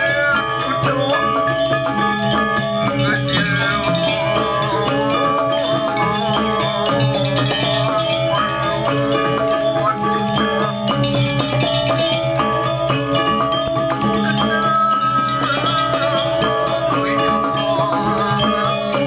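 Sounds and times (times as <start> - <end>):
drums: 0.0 - 19.0
gamelan metallophones: 0.0 - 19.0.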